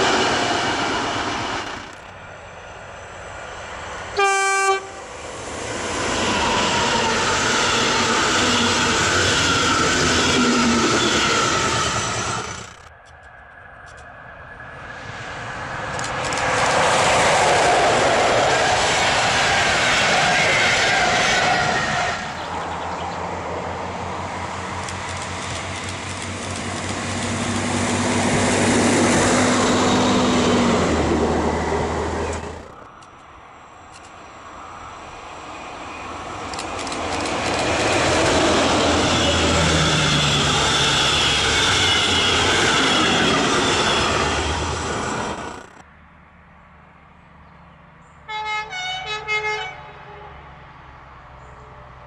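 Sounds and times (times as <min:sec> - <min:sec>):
passenger trains passing at speed: 0:00.0 - 0:47.1, 0:47.8 - 0:52.0.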